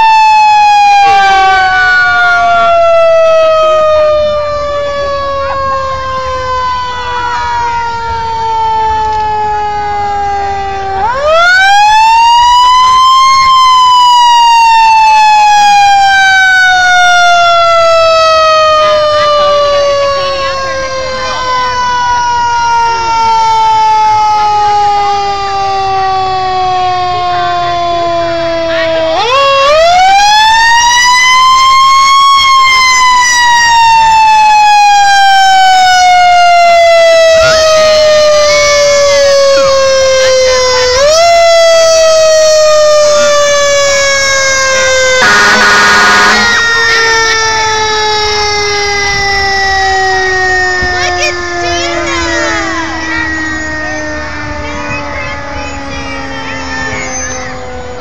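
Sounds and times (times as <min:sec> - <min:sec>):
fire truck siren: 0:00.0 - 0:58.0.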